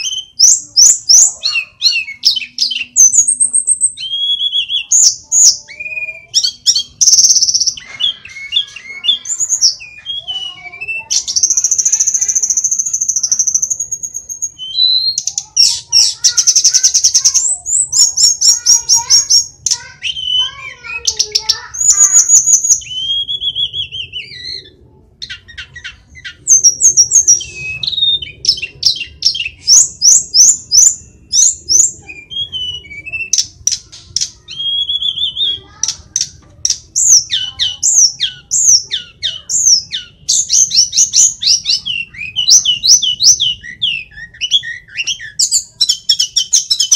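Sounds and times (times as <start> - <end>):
bird singing: 0.0 - 46.9.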